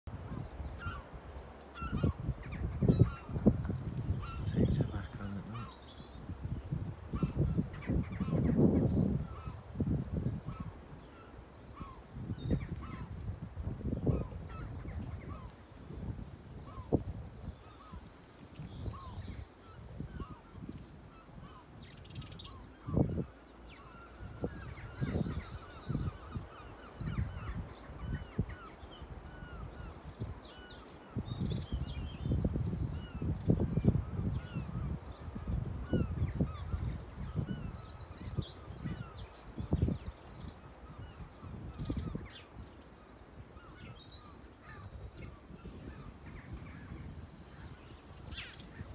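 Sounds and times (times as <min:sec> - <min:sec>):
wind buffeting microphone: 0:00.1 - 0:48.9
birds chirping and calling: 0:00.2 - 0:06.3, 0:07.1 - 0:15.6, 0:16.6 - 0:48.9.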